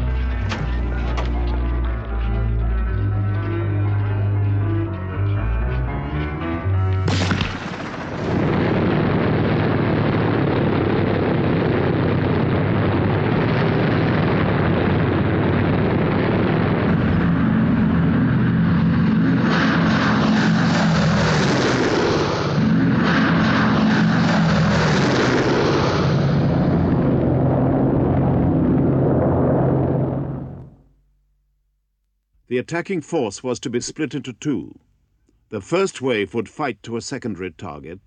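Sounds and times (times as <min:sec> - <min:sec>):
propeller plane engines droning: 0:00.0 - 0:30.9
low hum of plane flying over: 0:00.0 - 0:31.0.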